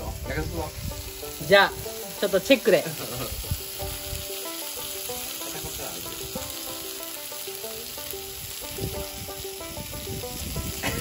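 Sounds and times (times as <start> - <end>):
faint background music: 0.0 - 11.0
food sizzling on a grill plate: 0.0 - 11.0.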